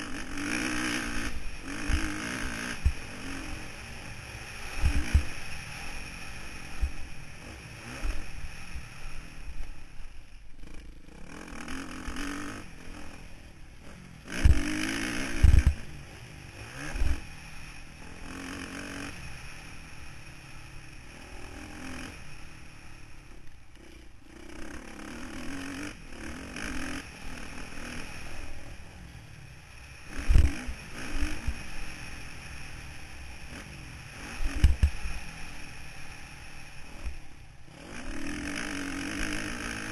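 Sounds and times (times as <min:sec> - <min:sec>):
motocross bike engine running: 0:00.0 - 0:39.9.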